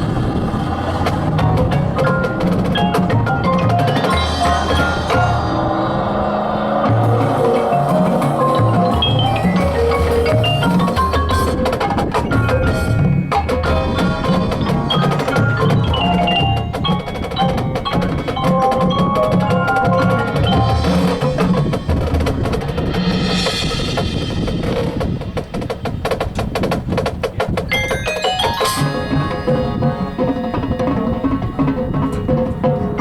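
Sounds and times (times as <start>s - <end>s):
mallet instruments playing melody: 0.9s - 23.4s, 27.7s - 33.0s.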